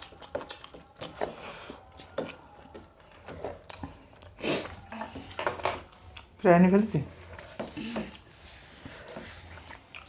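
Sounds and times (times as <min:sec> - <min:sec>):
chewing food: 0:00.0 - 0:08.3, 0:08.9 - 0:10.0.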